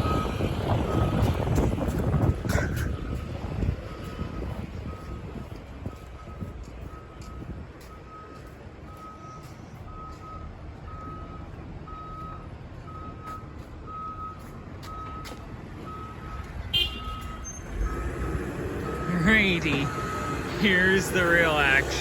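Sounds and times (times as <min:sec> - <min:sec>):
backup alarm beeping: 0:00.0 - 0:01.4, 0:02.1 - 0:22.0
diesel machinery rumble: 0:00.0 - 0:22.0.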